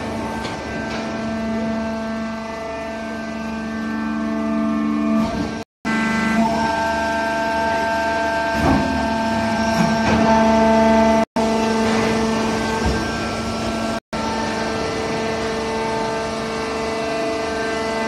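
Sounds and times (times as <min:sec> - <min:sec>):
hydraulic baler hum and whine: 0:00.0 - 0:18.0.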